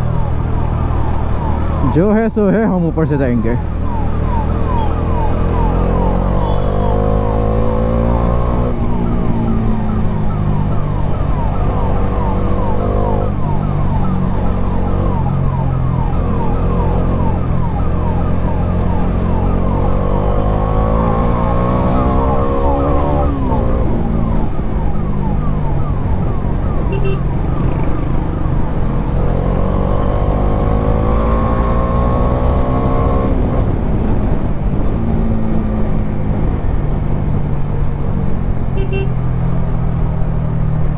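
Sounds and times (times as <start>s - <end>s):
ambulance siren yelping: 0.0s - 34.9s
motorcycle engine accelerating: 0.0s - 40.9s.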